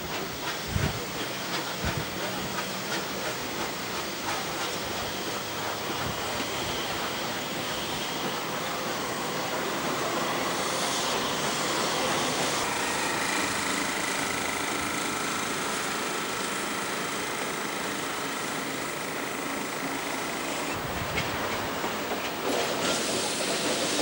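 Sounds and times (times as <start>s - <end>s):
steam train rolling past: 0.0s - 24.0s.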